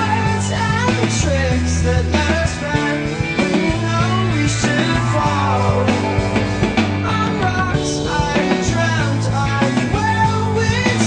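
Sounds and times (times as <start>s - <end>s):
bass line: 0.0s - 11.0s
drums: 0.0s - 11.0s
rock music: 0.0s - 11.0s.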